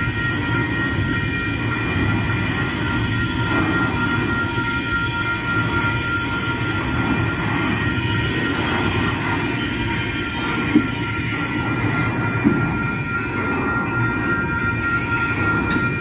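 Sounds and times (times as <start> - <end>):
freight train rumbling: 0.0 - 16.0
high-pitched ringing tones: 0.0 - 16.0.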